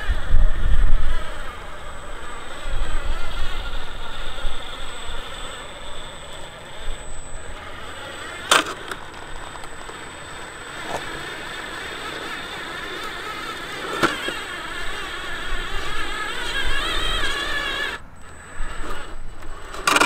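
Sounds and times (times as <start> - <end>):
small electric motor whining: 0.0 - 20.0.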